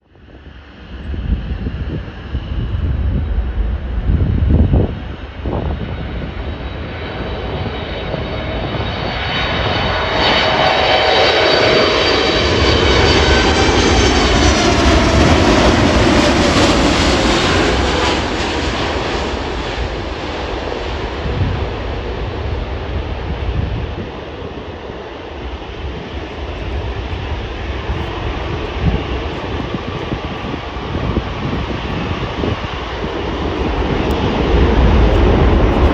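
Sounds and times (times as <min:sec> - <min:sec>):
jet airliner passing: 0:00.1 - 0:35.9.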